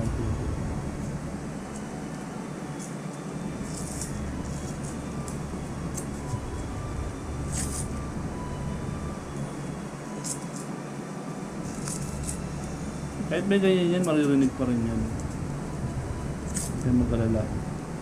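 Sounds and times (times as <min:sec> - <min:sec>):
low background rumble: 0:00.0 - 0:02.7, 0:03.3 - 0:10.2, 0:11.1 - 0:18.0.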